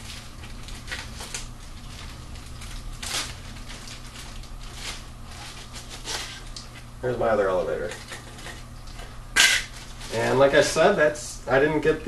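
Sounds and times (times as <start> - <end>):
plastic bags crinkling: 0.0 - 6.9, 7.5 - 11.0.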